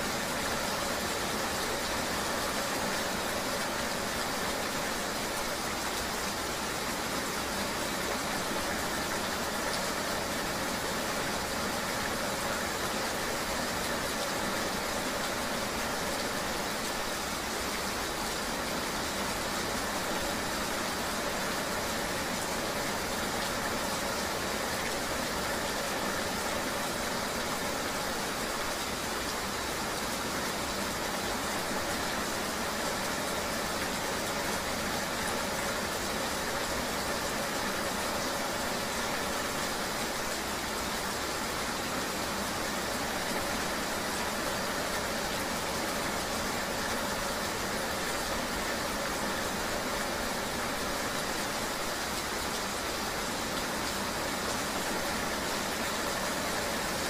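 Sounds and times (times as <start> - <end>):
rain noise: 0.0 - 57.0.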